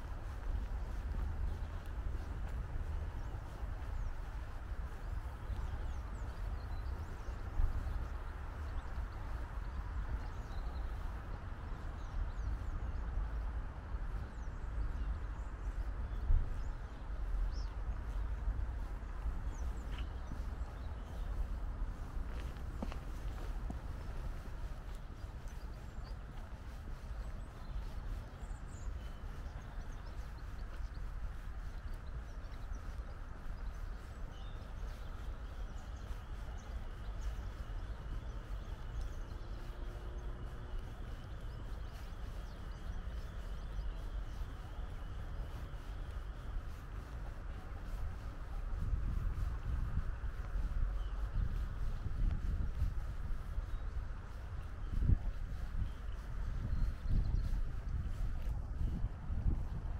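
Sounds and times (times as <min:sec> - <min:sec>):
footsteps on tarmac: 0:00.0 - 0:59.9
wind rumble on microphone: 0:00.0 - 0:59.9.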